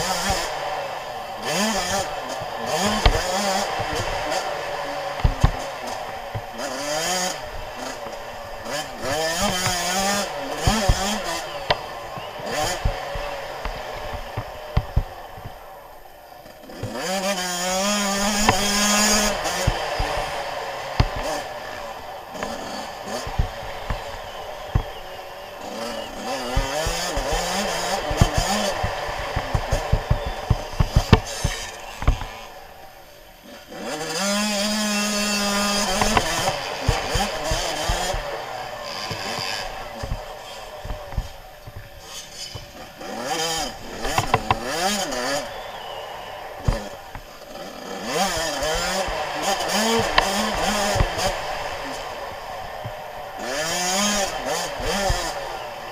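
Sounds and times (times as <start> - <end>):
two-stroke engine revving: 0.0 - 55.9
motorbike knocking over bumps: 1.4 - 15.6, 16.6 - 32.4, 34.8 - 55.9.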